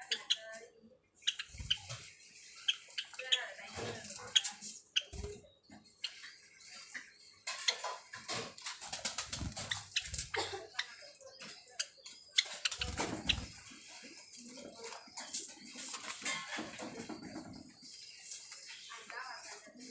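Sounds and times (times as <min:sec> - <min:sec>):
bird chirps: 0:00.0 - 0:19.9.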